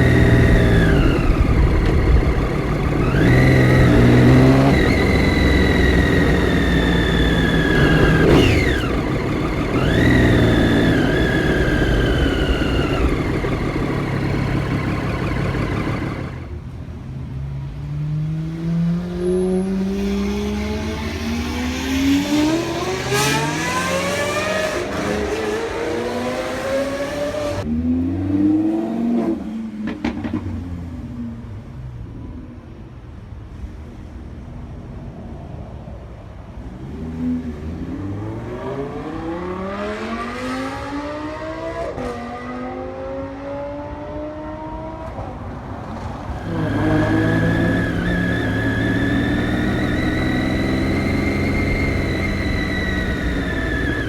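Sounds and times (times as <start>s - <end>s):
motorcycle engine revving through gears: 0.0s - 16.7s, 18.0s - 31.0s, 36.8s - 54.0s.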